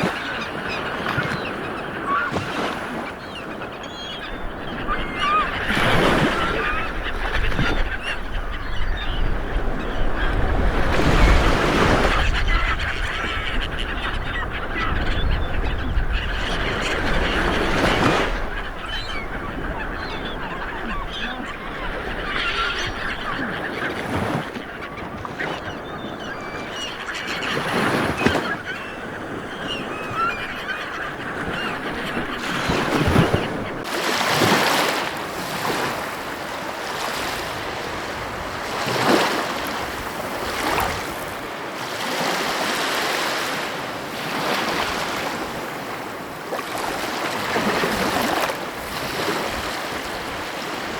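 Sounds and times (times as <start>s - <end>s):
birds calling: 0.0s - 50.9s.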